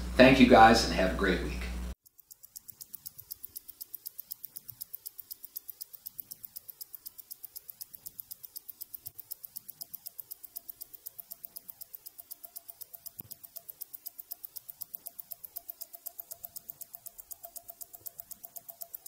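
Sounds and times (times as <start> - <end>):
wristwatch ticking: 1.9 - 19.0.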